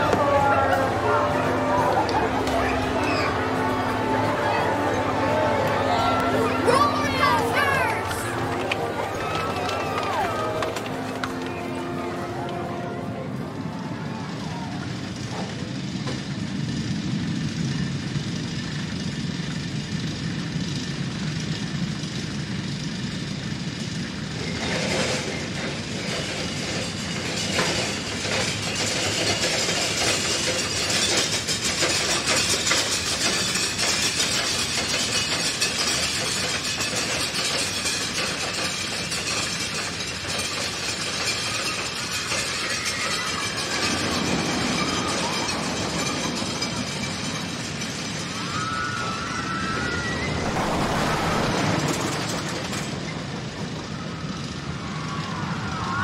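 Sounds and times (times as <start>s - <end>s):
roller coaster on track: 0.0s - 56.0s.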